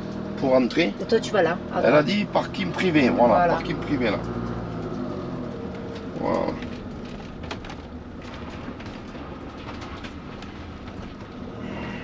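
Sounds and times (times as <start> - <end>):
engine running at low speed: 0.0 - 12.0
light clicks and rattles: 2.2 - 11.9.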